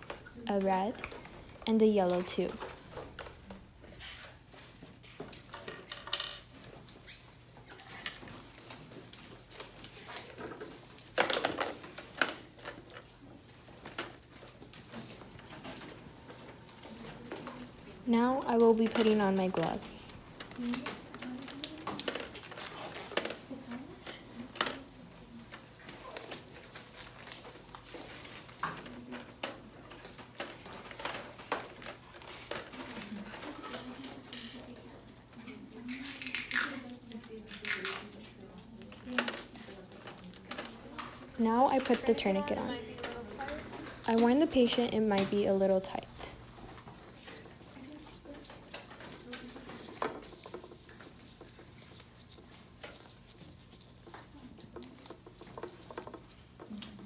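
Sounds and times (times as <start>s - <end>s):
plastic tubes clicking and rattling: 7.6s - 13.1s, 13.7s - 57.0s.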